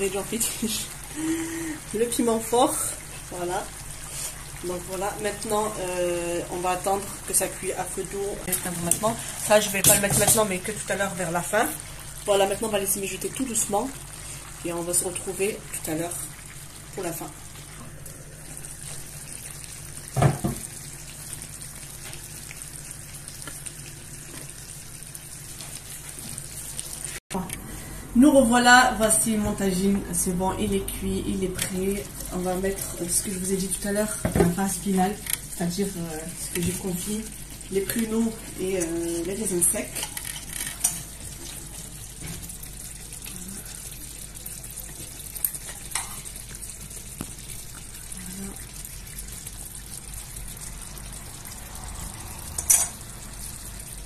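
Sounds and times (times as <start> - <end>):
sauce sizzling and bubbling: 0.0 - 54.0.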